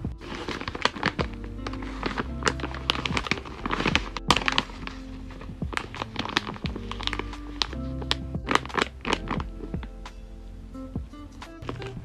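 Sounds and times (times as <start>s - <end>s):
music with sharp steady beat: 0.0s - 12.0s.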